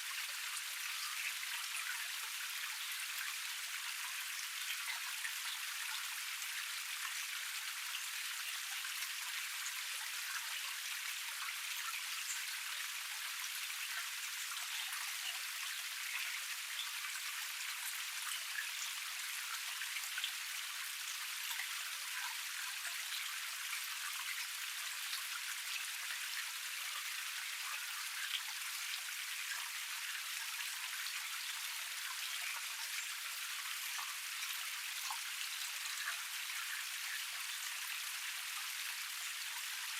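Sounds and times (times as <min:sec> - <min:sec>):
water pouring over cascade: 0:00.0 - 0:39.9.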